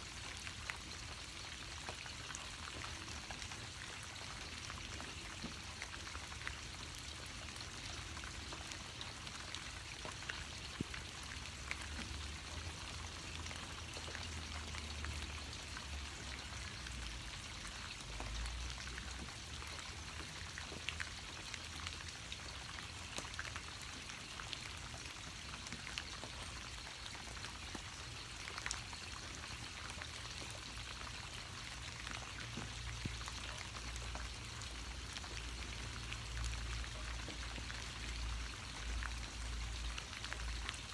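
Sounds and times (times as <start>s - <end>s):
raindrops ticking on surfaces: 0.0s - 40.9s
steady rain hiss: 0.0s - 40.9s.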